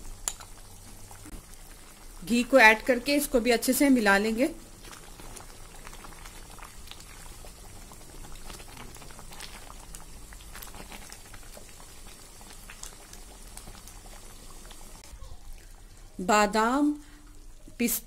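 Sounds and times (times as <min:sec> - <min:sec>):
thick mixture boiling and popping: 0:00.0 - 0:18.0.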